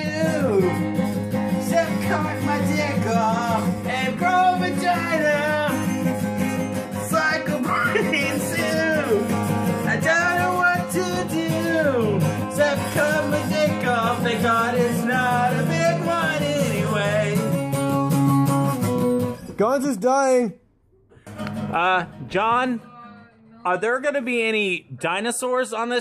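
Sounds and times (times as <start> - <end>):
instrumental backing: 0.0 - 24.6.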